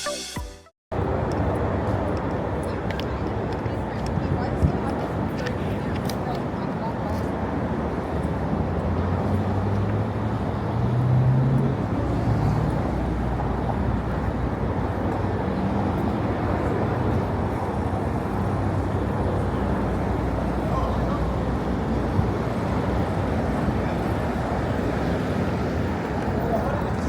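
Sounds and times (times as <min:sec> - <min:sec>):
traffic noise: 0:00.9 - 0:27.0
engine hum of passing vehicles: 0:01.0 - 0:27.0.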